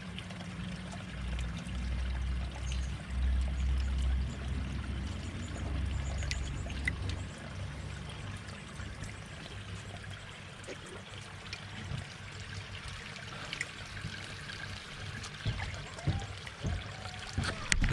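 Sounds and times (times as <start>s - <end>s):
water trickling into pond: 0.0s - 17.9s.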